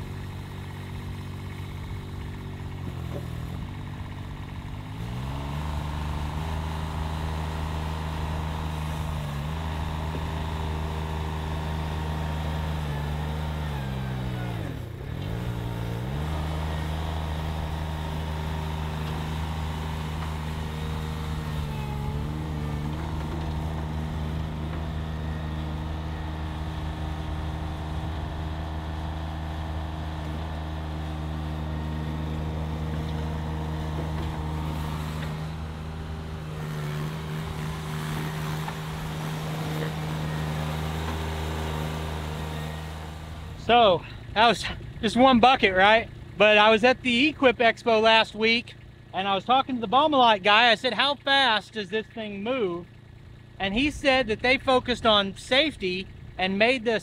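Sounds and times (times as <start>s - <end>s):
skid steer engine running: 0.0s - 57.0s.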